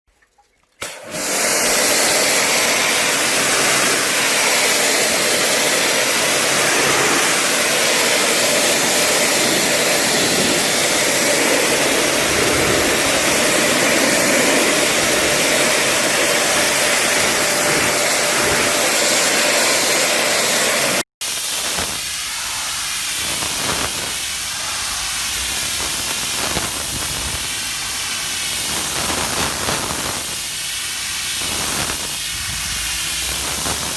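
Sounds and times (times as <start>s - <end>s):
pressure washer spraying water: 0.8s - 33.9s.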